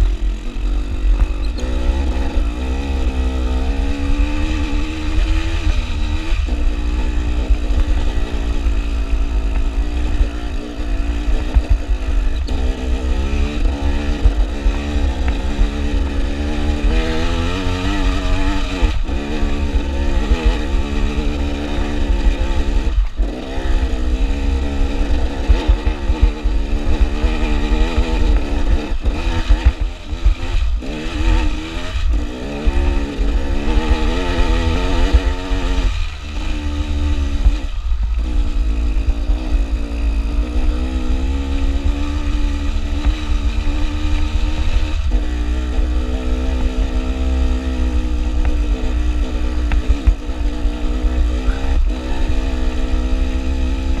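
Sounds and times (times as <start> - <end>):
dirt bike engine revving: 0.0 - 54.0
wind rumble on microphone: 0.0 - 54.0.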